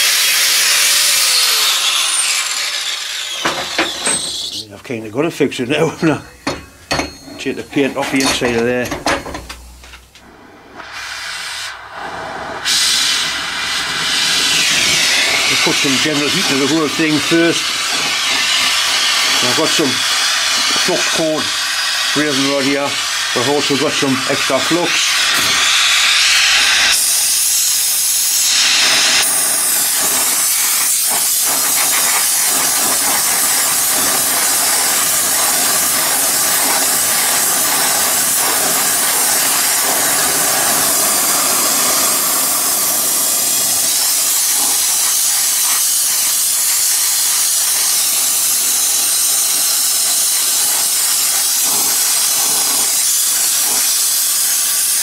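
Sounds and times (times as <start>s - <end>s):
torch flame hissing: 0.0s - 4.7s, 10.1s - 55.0s.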